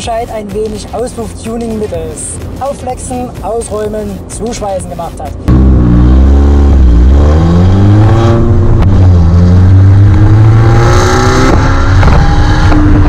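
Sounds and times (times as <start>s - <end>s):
car engine and exhaust accelerating: 0.5s - 13.0s.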